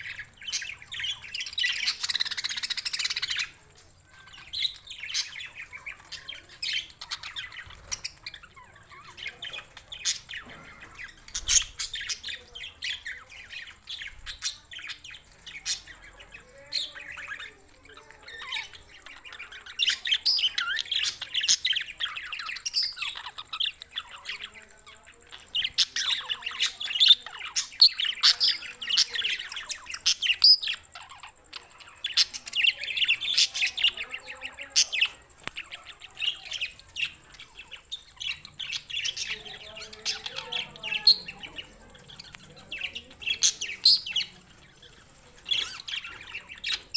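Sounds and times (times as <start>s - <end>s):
budgerigars chattering and warbling: 0.0s - 46.9s.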